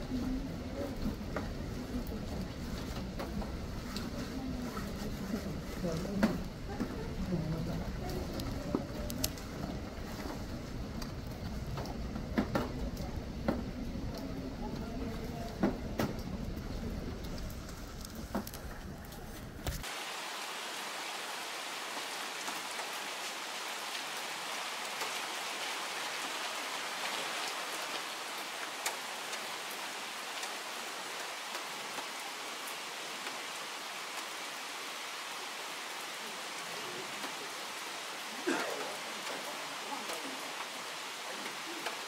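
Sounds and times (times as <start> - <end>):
heavy rain on a roof: 0.0 - 42.0.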